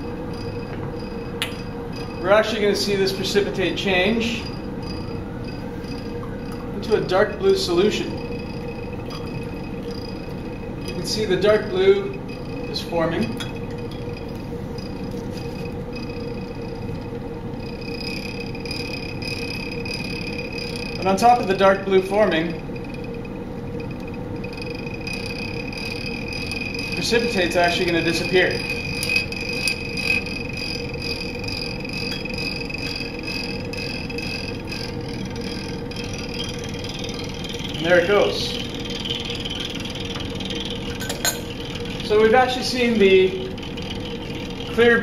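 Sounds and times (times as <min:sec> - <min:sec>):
magnetic stirrer running: 0:00.0 - 0:45.0.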